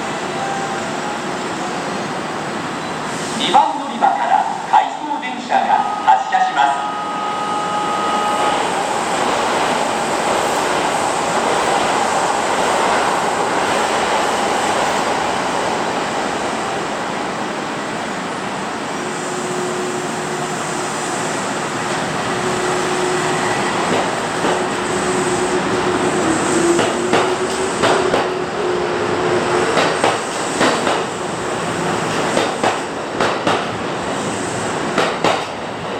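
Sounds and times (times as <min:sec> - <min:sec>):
train running on rails: 0:00.0 - 0:35.9.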